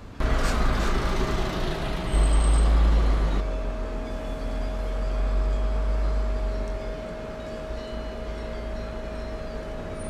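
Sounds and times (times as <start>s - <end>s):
bus engine rumbling: 0.0s - 10.0s.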